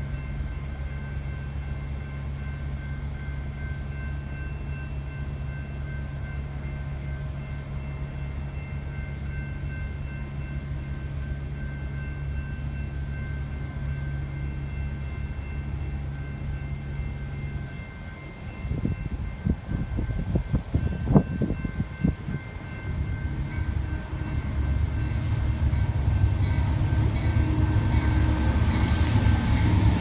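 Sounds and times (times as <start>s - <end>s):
distant train rumble: 0.0s - 30.0s.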